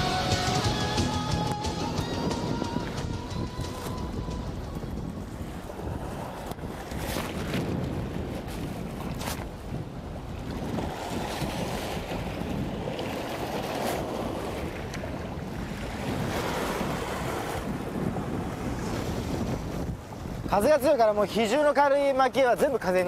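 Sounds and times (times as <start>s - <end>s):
wind buffeting microphone: 0.0s - 23.0s
sea waves on rocks: 1.4s - 23.0s.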